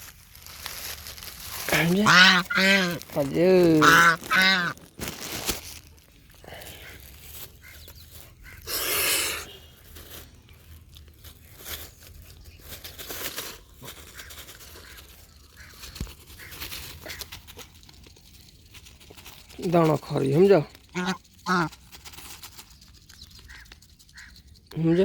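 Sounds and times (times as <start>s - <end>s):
duck pecking grains: 0.2s - 25.0s.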